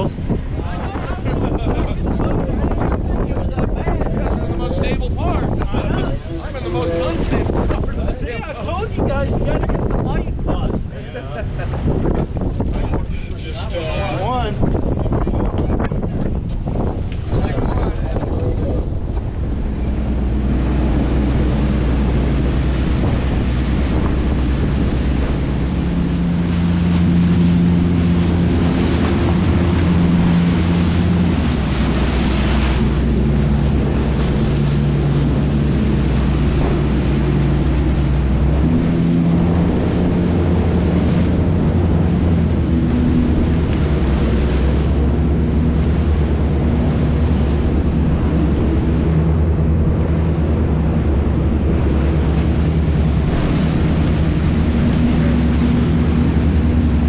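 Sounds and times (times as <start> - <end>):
boat engine running: 0.0 - 57.0
water rushing past hull: 0.0 - 57.0
wind on microphone: 0.0 - 57.0.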